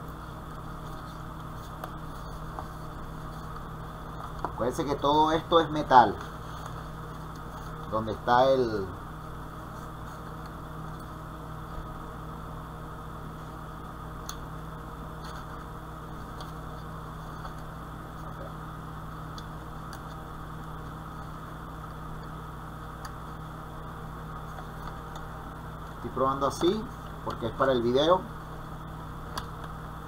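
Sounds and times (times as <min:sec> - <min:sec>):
faint high whine: 0:00.0 - 0:30.0
low electrical hum: 0:00.0 - 0:30.0.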